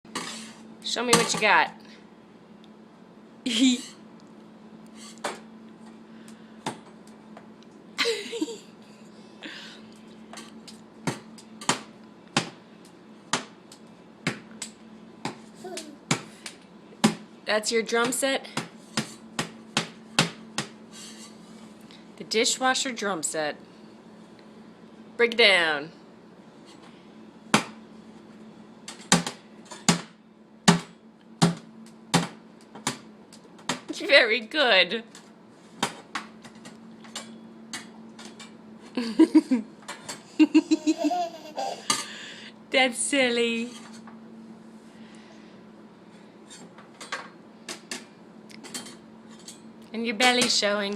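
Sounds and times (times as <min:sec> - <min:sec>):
steady low hum: 0:00.1 - 0:50.9.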